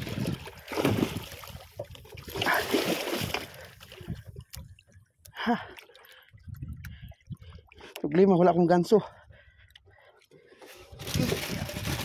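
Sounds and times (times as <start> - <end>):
fish thrashing and water splashing: 0.0 - 8.0, 9.8 - 12.0.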